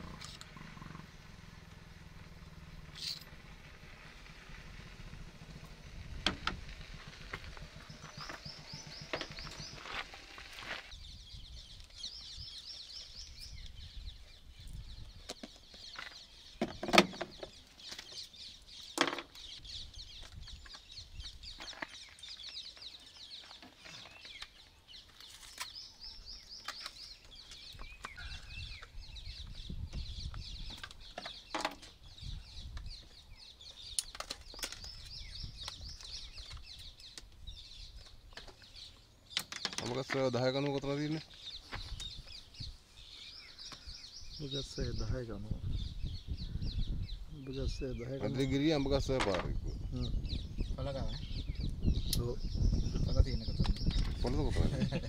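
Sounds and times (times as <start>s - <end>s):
birds trilling: 0.0s - 55.0s.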